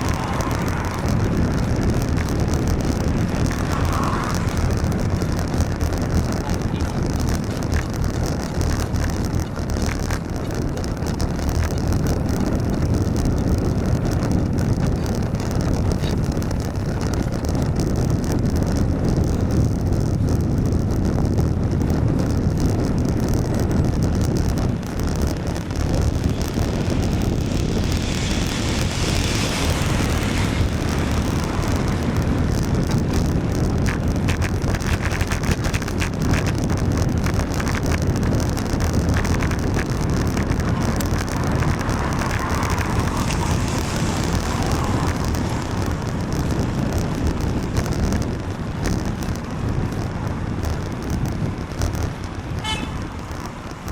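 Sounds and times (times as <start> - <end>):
rain: 0.0 - 53.9
road traffic noise: 0.0 - 53.9
wind rumbling on microphone: 0.0 - 53.9.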